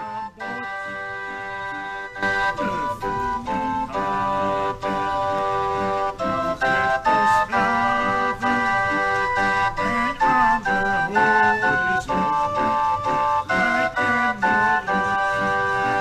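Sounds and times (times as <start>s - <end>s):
barrel organ playing chords: 0.0s - 16.0s.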